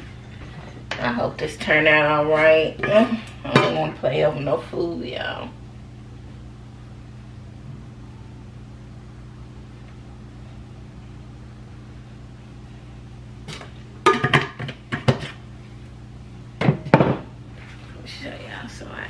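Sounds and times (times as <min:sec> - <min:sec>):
kitchen appliance humming: 0:00.0 - 0:19.0.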